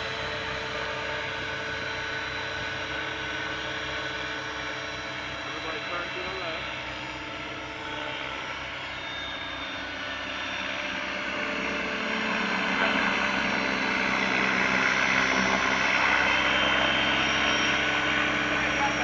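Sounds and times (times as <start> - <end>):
toy helicopter rotors whining: 0.0 - 19.0.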